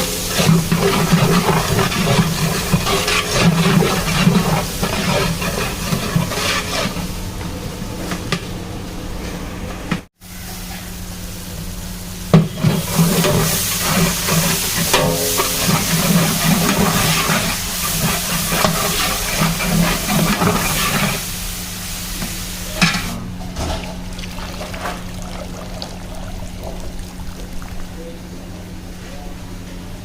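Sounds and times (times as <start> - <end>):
food sizzling in a pot: 0.0 - 7.3, 10.2 - 23.2, 23.9 - 28.8.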